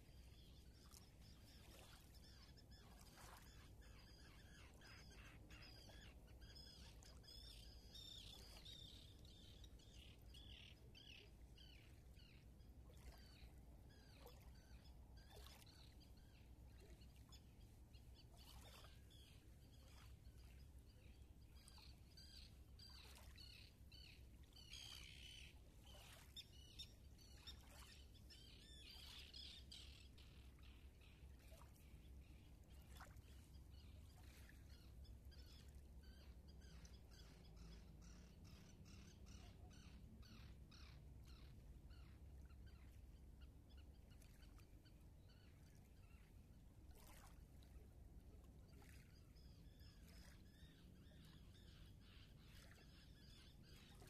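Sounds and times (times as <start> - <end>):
faint birdsong: 0.0 - 54.0.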